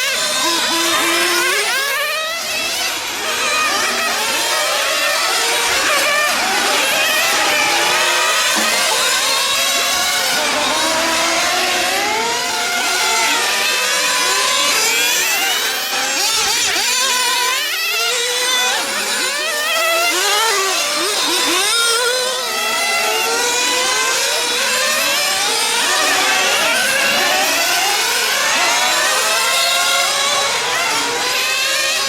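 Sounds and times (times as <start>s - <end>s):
rc car engines whining: 0.0s - 32.0s.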